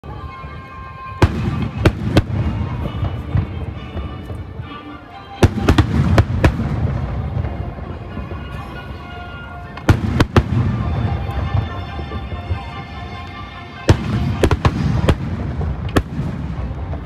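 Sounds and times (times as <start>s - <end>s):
firework bursts: 0.9s - 17.0s.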